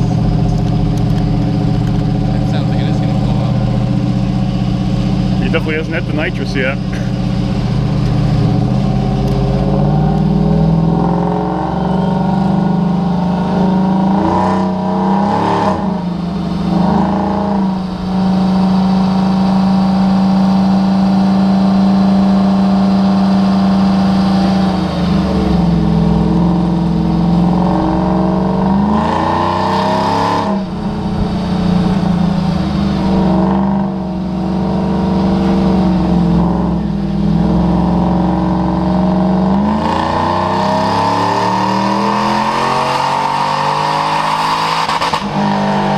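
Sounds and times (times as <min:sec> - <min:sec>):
diesel engine at high revs: 0:00.0 - 0:45.9.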